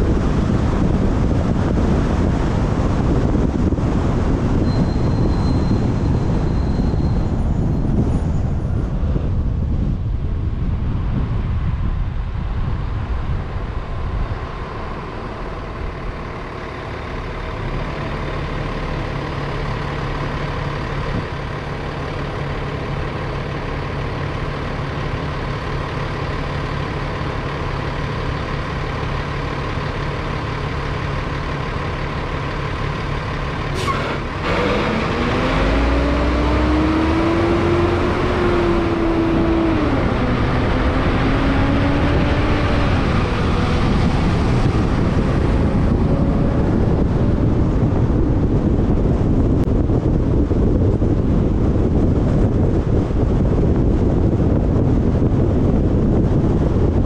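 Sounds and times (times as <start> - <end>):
engine hum: 0.0 - 57.0
road and wind rumble: 0.0 - 57.0.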